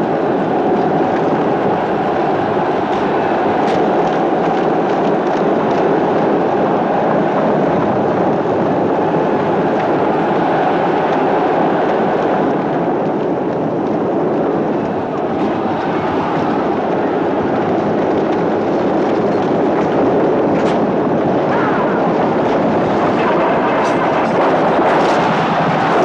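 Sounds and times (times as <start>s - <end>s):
chariot wheels rumbling: 0.0s - 26.0s
galloping horses: 0.0s - 26.0s.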